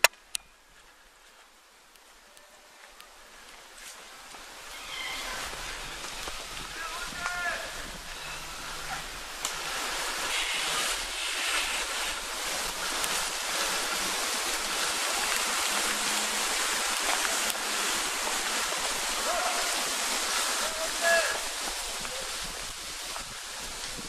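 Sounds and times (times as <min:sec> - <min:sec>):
outdoor hiss: 0:00.0 - 0:24.0.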